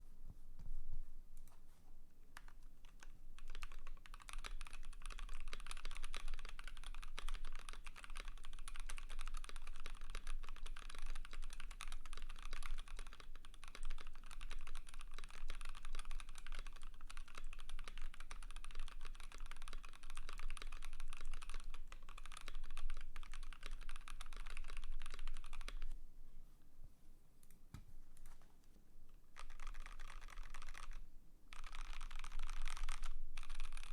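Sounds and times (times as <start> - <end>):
mechanical keyboard typing: 2.4 - 26.0, 29.3 - 33.9.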